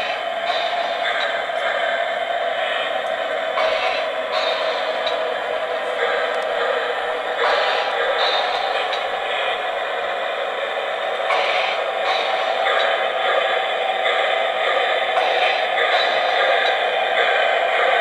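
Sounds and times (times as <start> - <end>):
model trains rolling on track: 0.0 - 18.0.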